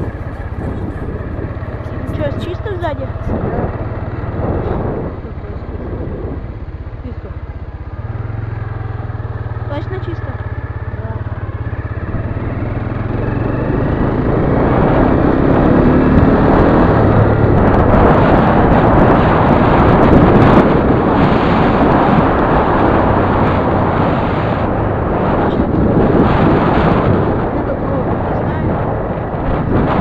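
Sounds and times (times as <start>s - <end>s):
motorcycle engine accelerating: 0.0s - 30.0s
wind noise on microphone: 0.0s - 30.0s.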